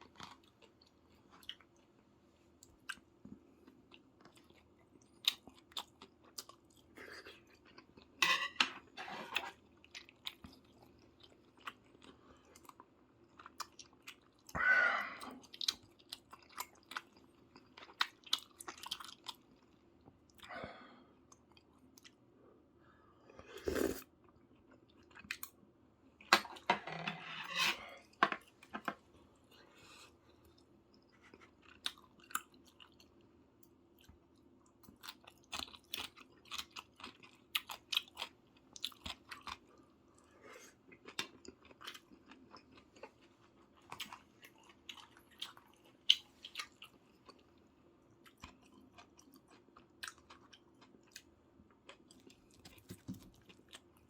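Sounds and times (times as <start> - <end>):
person chewing food: 0.0 - 8.2, 8.8 - 14.6, 15.2 - 20.6, 21.2 - 22.3, 23.5 - 25.6, 27.7 - 54.0.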